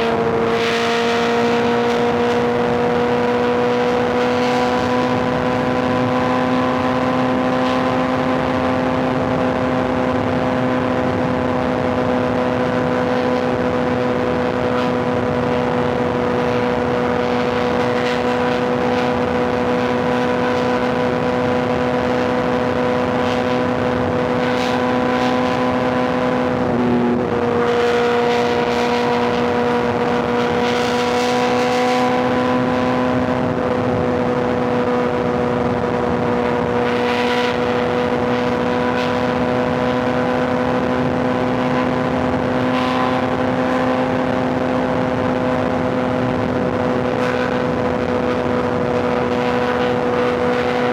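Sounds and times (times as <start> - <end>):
motorcycle engine at high revs: 0.0 - 50.9
wind and road noise: 0.0 - 50.9.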